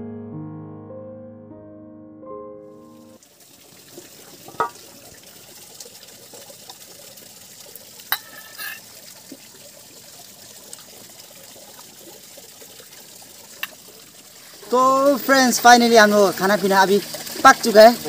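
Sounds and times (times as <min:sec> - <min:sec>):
broth bubbling in pot: 0:03.2 - 0:18.0
ladle pouring liquid: 0:03.2 - 0:18.0.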